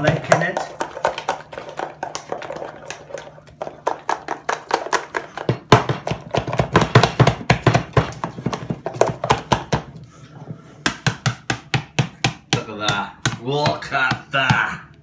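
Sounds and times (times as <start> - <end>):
potato masher knocking in saucepan: 0.0 - 2.6, 3.8 - 9.9, 10.9 - 14.9.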